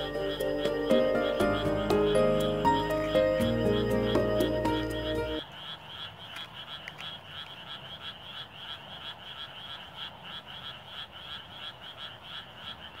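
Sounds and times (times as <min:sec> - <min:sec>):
chorus of frogs croaking: 0:00.0 - 0:13.0.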